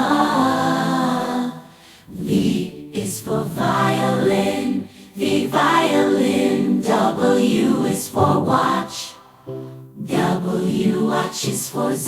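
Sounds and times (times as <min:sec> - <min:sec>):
children's song with backing music: 0:00.0 - 0:12.0.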